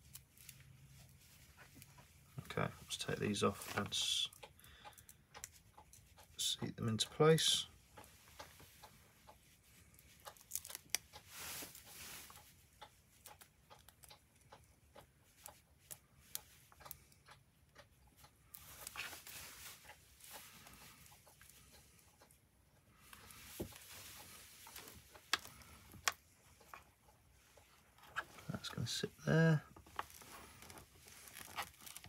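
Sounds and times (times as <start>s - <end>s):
small clicks and rustles: 0.0s - 32.0s.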